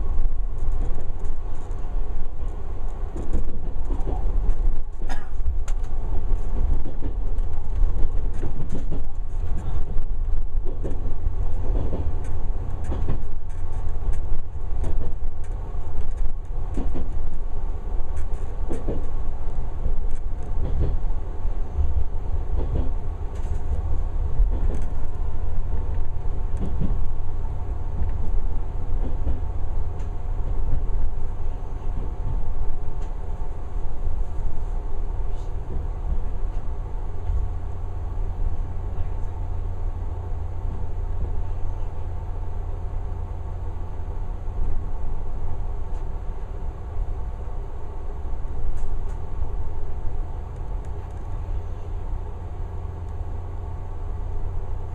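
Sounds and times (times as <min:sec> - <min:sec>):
train wheels clicking on rail joints: 0:00.0 - 0:42.3, 0:45.4 - 0:47.5, 0:48.4 - 0:52.0
train running rumble: 0:00.0 - 0:54.9.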